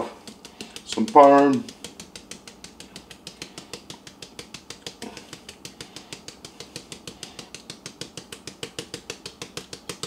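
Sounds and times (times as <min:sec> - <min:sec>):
fast light clicks: 0:00.0 - 0:10.0.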